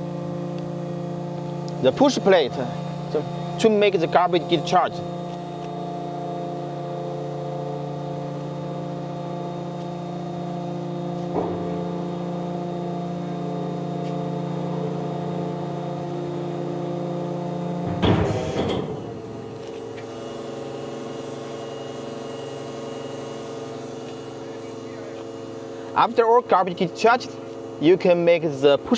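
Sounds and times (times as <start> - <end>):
hydraulic system humming: 0.0 - 28.9.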